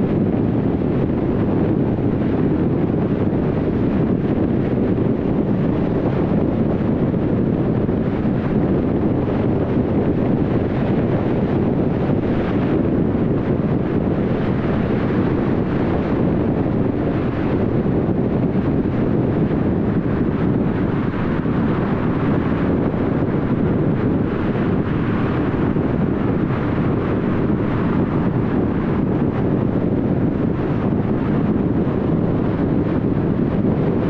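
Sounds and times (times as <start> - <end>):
car road and tyre noise: 0.0 - 34.0.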